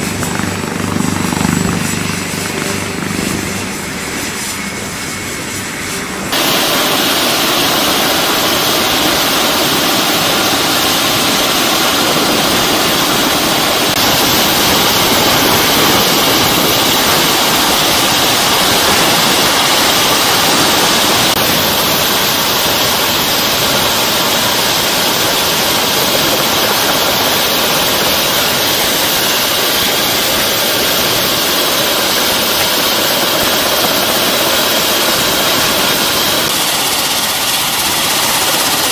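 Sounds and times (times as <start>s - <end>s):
helicopter engines and rotor: 0.0s - 38.9s.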